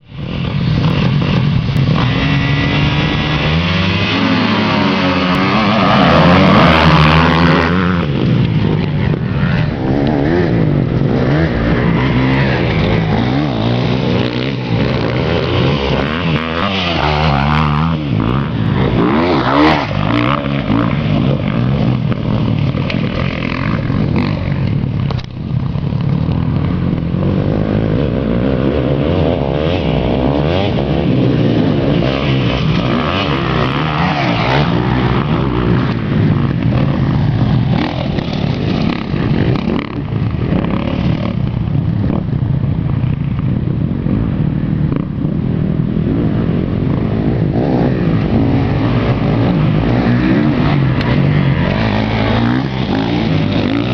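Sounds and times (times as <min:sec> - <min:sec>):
motocross bike engine revving: 0:00.2 - 0:43.3, 0:43.9 - 0:53.9.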